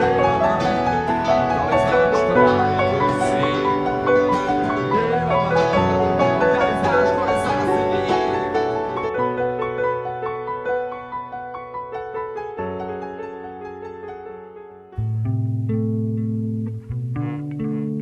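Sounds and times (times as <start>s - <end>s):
piano instrumental music: 0.0s - 18.0s.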